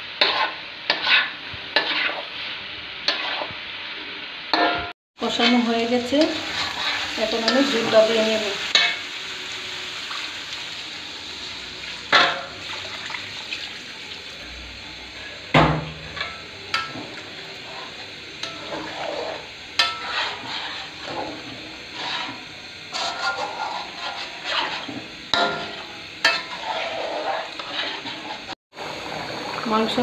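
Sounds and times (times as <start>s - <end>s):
food sizzling and bubbling in pot: 0.0s - 30.0s.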